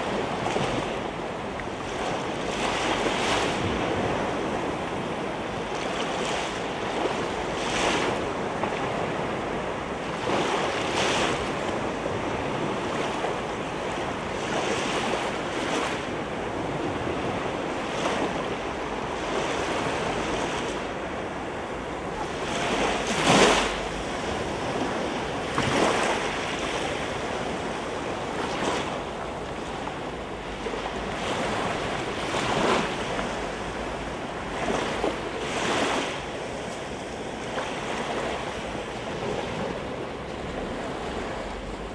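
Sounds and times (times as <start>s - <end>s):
sea waves breaking: 0.0s - 41.9s
wind on microphone: 0.0s - 41.9s.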